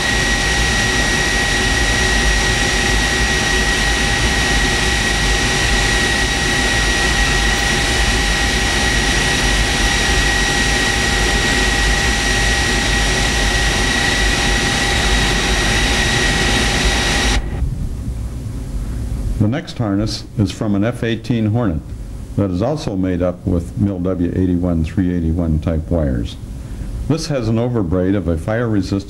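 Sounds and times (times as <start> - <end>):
generator roaring with high whine: 0.0 - 29.0.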